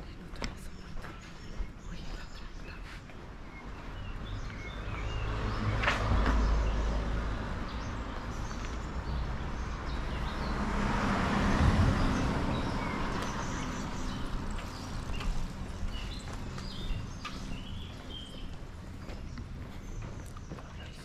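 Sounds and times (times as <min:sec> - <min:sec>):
small birds chirping: 0:00.0 - 0:21.0
vehicles passing: 0:00.0 - 0:21.0.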